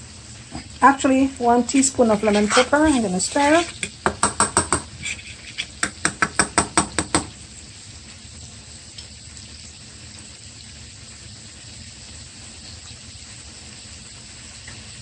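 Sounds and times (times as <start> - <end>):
garlic sizzling in butter: 0.0 - 15.0.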